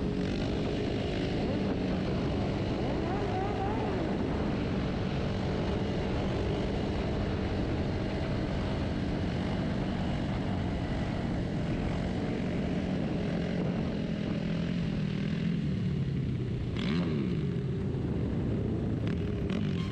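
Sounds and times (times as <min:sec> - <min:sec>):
motorcycle engines running: 0:00.0 - 0:19.9.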